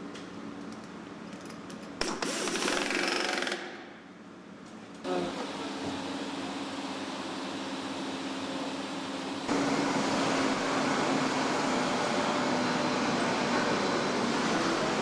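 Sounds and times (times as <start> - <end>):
machinery and ventilation hum: 0.0 - 15.0.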